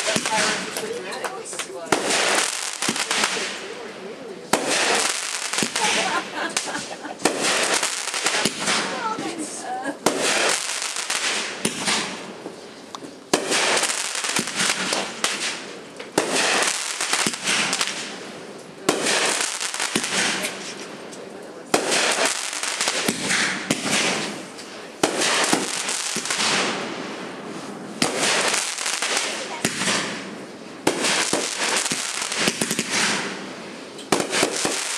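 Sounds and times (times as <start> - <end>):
fireworks banging: 0.0 - 34.9
fireworks crackling hiss: 0.0 - 34.9.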